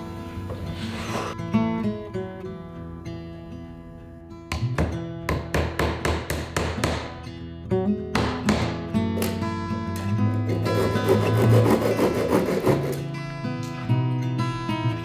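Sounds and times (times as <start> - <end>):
acoustic guitar strumming: 0.0 - 5.3, 7.1 - 15.0.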